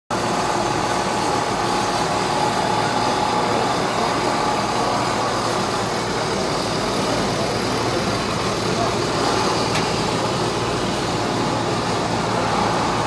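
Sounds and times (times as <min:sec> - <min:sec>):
engine idling: 0:00.1 - 0:13.0.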